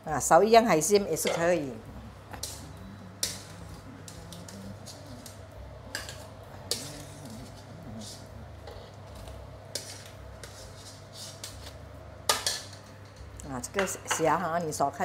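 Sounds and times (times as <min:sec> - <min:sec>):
utensils clinking against dishes: 0:01.2 - 0:01.7, 0:02.3 - 0:11.7, 0:12.3 - 0:14.7.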